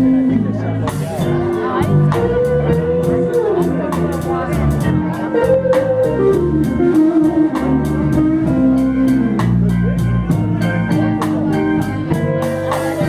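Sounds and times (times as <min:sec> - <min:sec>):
blues band playing: 0:00.0 - 0:13.0
electric guitar bending notes: 0:00.0 - 0:13.0.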